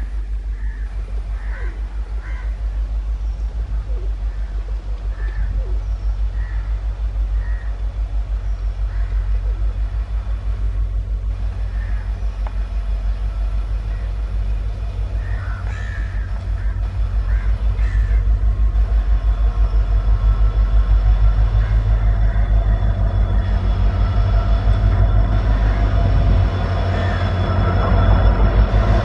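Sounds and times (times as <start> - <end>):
bird calls: 0.0 - 10.2, 11.3 - 27.7
diesel train engine rumbling: 0.0 - 29.0.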